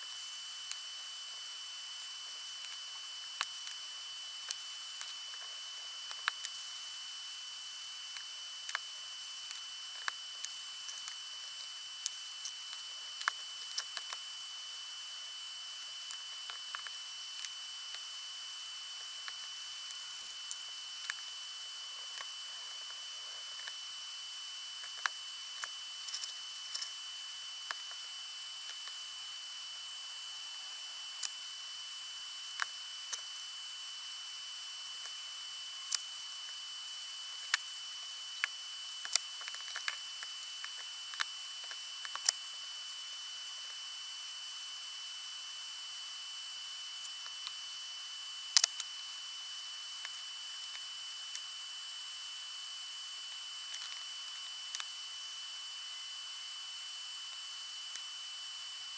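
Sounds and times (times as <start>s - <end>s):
thin high whine: 0.0s - 54.5s.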